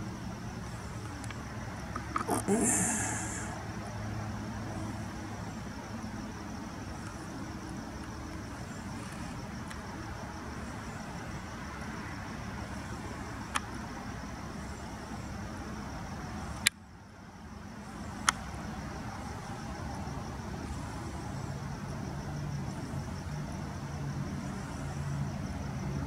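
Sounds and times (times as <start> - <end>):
low background rumble and hiss: 0.0 - 26.0.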